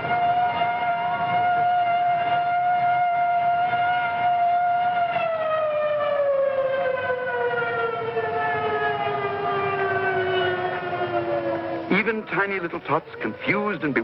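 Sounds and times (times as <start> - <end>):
air raid siren winding down: 0.0 - 14.0.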